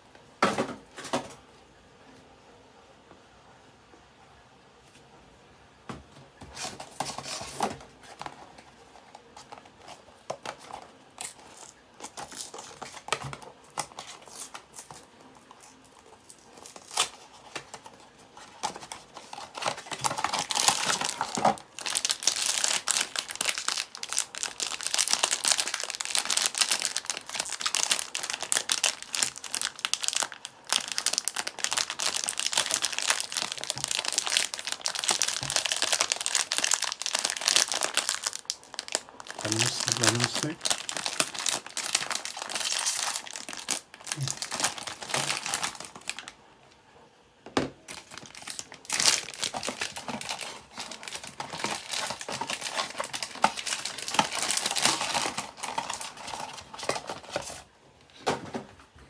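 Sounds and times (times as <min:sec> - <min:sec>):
foil wrapper crinkling: 0:06.5 - 0:46.4, 0:47.9 - 0:57.7.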